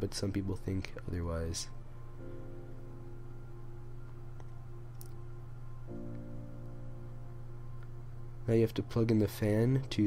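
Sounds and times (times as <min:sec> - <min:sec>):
music of sustained notes: 0:01.2 - 0:10.0.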